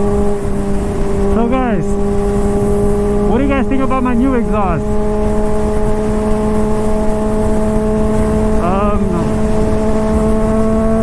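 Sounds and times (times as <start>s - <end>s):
motorcycle engine droning: 0.0s - 11.0s
wind noise: 0.0s - 11.0s.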